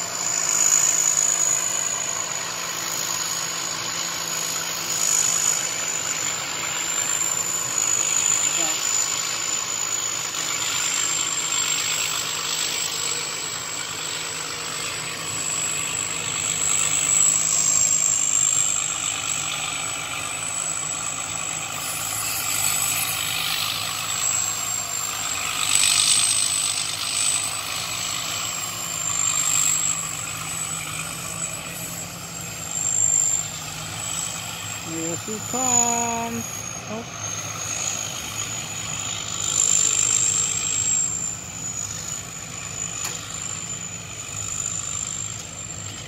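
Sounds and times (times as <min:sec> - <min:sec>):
harvester engine running: 0:00.0 - 0:46.0
high-pitched whine: 0:00.0 - 0:46.0.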